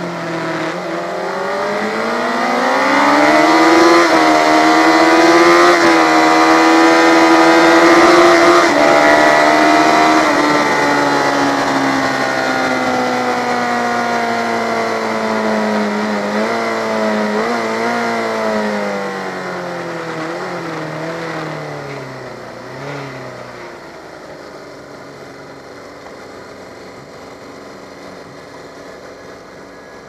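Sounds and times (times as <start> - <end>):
motorcycle engine slowing: 0.0 - 30.0.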